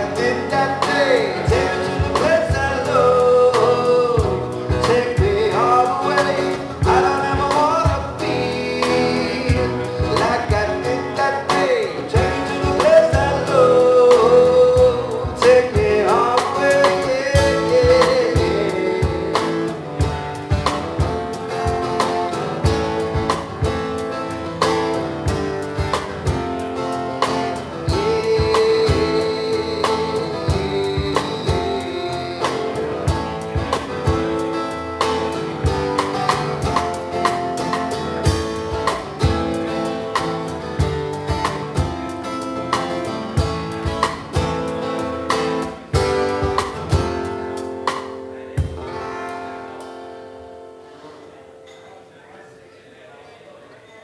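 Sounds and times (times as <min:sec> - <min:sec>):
man singing: 0:00.0 - 0:49.3
drum kit playing: 0:00.0 - 0:50.4
strummed acoustic guitar: 0:00.0 - 0:52.0.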